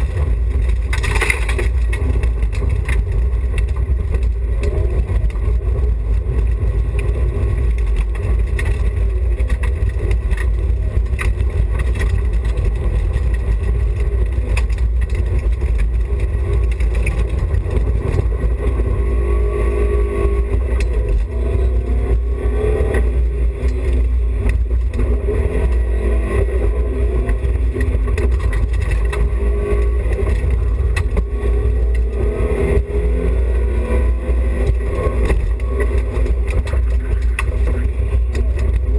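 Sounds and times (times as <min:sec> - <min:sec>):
rally car engine revving: 0:00.0 - 0:38.9
road and tyre rumble: 0:00.0 - 0:38.9.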